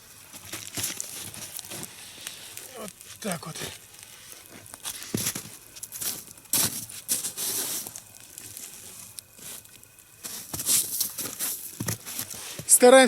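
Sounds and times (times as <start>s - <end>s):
crunching and rustling: 0.0s - 13.0s.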